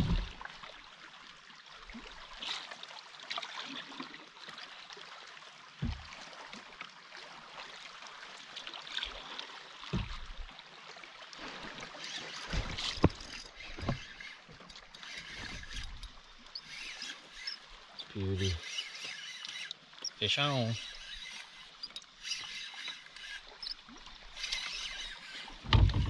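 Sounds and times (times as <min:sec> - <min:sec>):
water lapping against canoe: 0:00.0 - 0:26.0.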